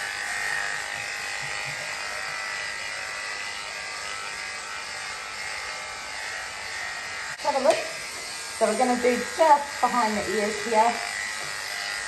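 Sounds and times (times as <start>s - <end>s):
electric clippers running: 0.0s - 12.0s.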